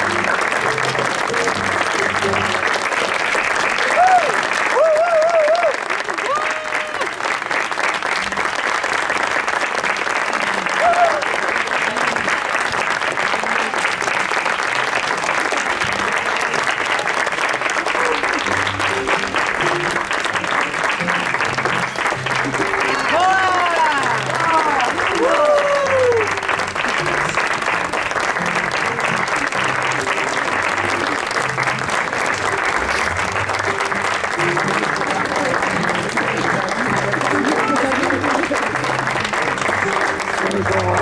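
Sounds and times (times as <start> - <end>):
faint voices: 0.0 - 4.9, 10.1 - 41.0
crowd applauding: 0.0 - 41.0.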